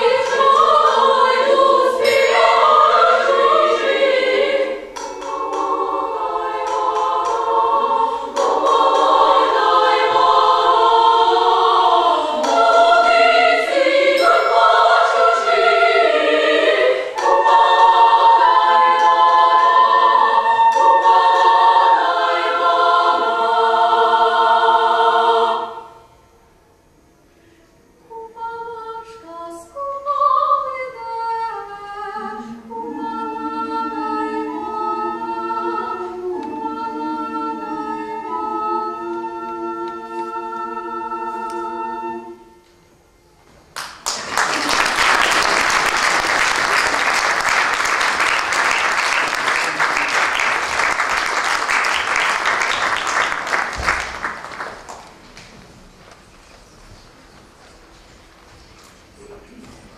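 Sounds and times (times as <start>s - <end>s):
women's choir singing: 0.0s - 26.2s, 28.0s - 43.0s, 44.1s - 55.1s.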